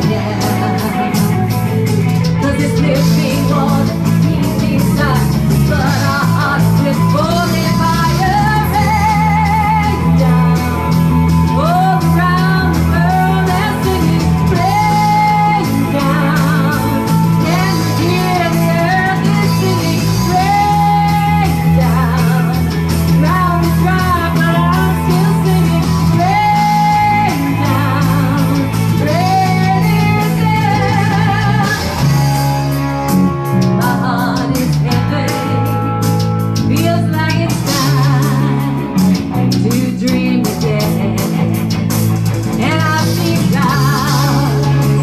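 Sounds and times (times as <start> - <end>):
woman singing: 0.0 - 41.8, 42.4 - 45.0
bass guitar: 0.0 - 45.0
drums: 0.0 - 45.0
electric guitars: 0.0 - 45.0.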